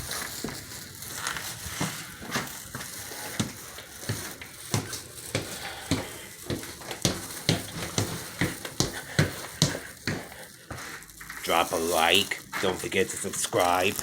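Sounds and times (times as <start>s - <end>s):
footsteps walking: 0.0s - 14.0s
steady rustling hiss: 0.0s - 14.0s.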